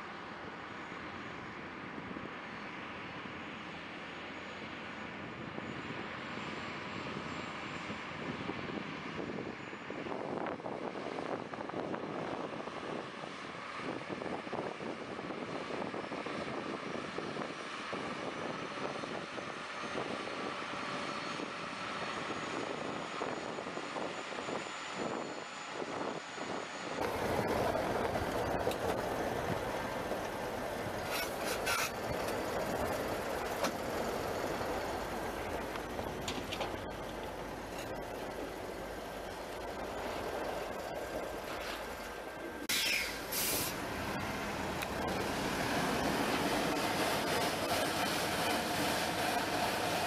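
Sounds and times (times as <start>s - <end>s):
large vehicle engine drone: 0.0s - 50.0s.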